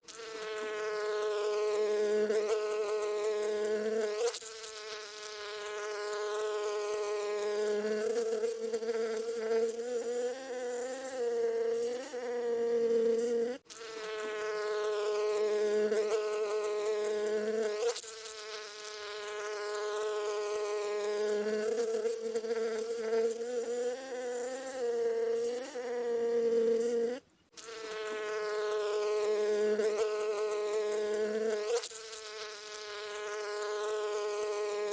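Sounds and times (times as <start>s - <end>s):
bees buzzing in flight: 0.1s - 34.9s.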